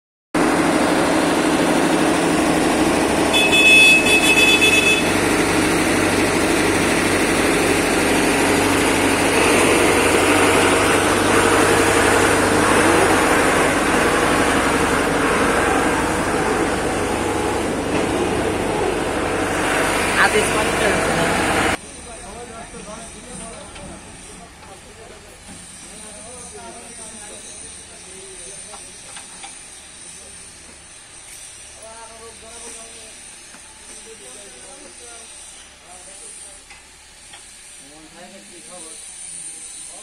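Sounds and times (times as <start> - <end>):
diesel engine running: 0.4 - 34.6.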